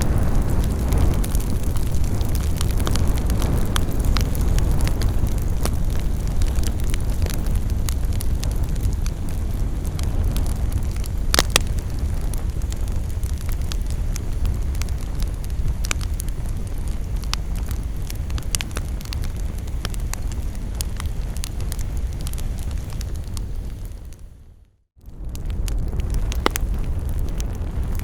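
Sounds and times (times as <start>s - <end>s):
wood crackling and popping: 0.0s - 24.3s, 25.0s - 28.0s
low rumble of flames: 0.0s - 28.0s.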